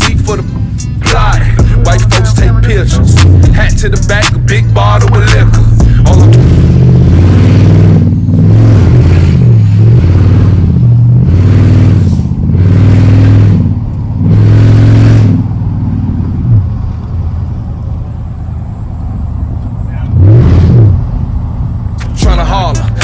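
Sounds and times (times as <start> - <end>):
loud truck engine revving: 0.0 - 23.0.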